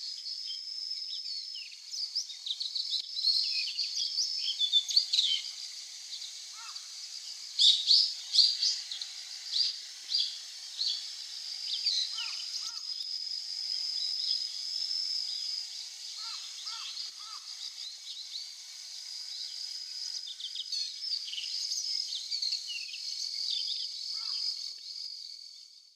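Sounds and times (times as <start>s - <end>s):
bird singing curving notes: 0.0s - 24.3s
steady high-pitched hum: 0.0s - 24.8s.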